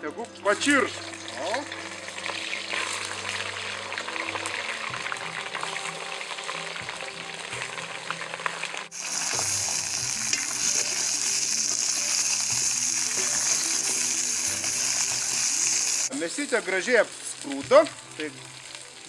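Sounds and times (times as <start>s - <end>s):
meat sizzling in hot oil: 0.4s - 19.0s
wooden spoons turning meat: 0.9s - 18.4s.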